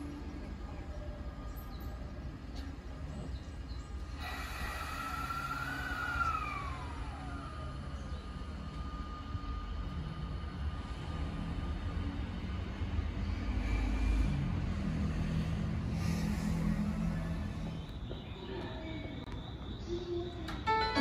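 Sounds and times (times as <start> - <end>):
electric train inverter whine: 0.0 - 21.0
low train rumble: 0.0 - 21.0.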